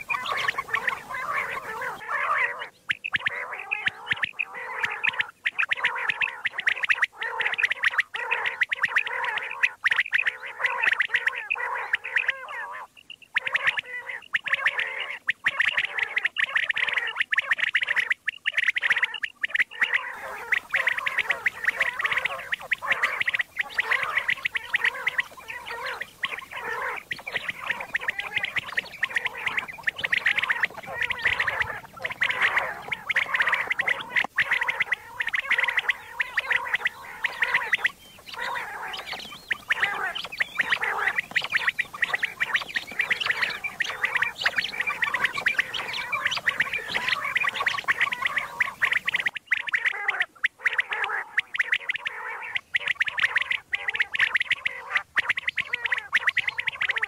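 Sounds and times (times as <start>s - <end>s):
quail calling: 0.0s - 57.0s.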